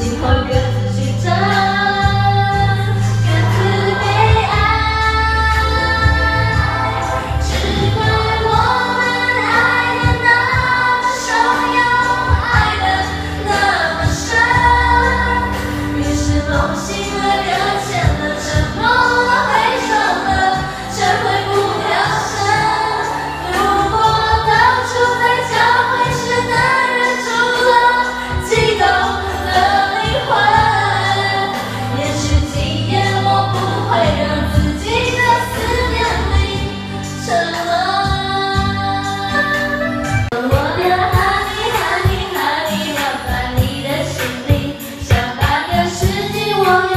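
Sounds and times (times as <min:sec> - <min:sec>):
pop backing track: 0:00.0 - 0:46.9
women singing karaoke: 0:00.0 - 0:46.9.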